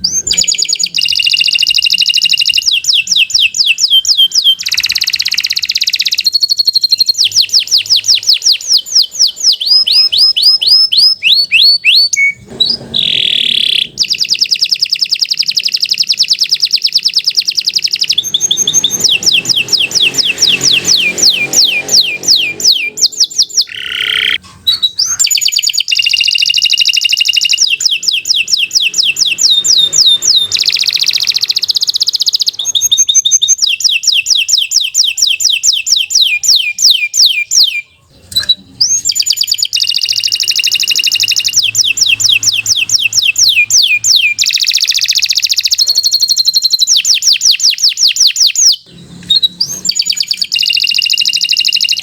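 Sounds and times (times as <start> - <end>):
canary singing rapid trills: 0.0 - 52.0.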